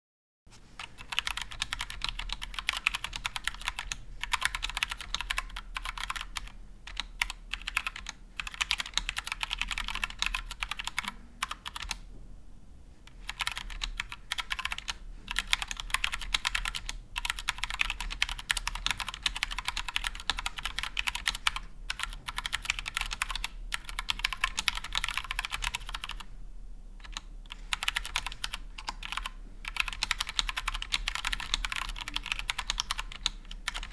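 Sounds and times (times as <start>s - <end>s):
mechanical keyboard typing: 0.8s - 12.0s, 13.1s - 26.3s, 27.0s - 33.9s.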